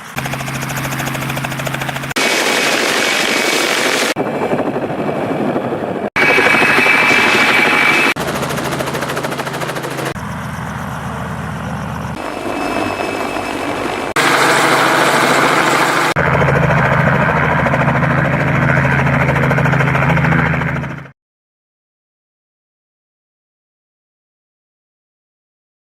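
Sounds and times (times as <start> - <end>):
helicopter engine and rotor: 0.0 - 21.2.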